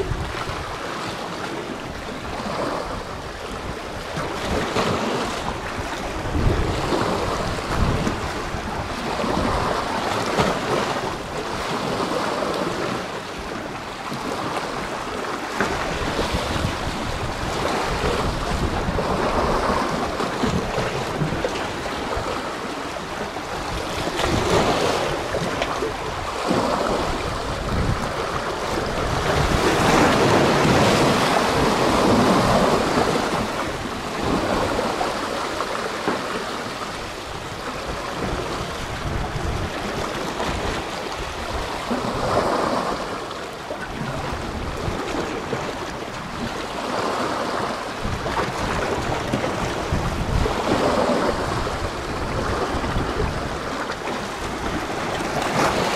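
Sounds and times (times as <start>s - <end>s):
sea waves breaking: 0.0s - 55.9s
wind buffeting microphone: 0.0s - 55.9s.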